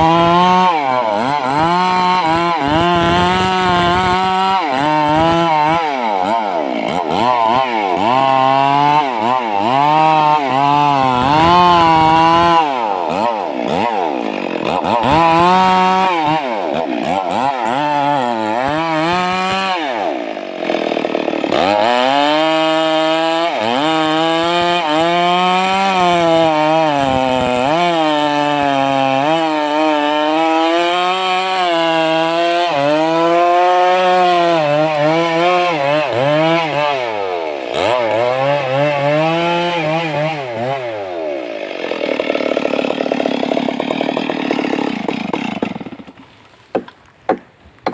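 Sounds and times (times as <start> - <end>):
chainsaw cutting into tree: 0.0 - 47.9.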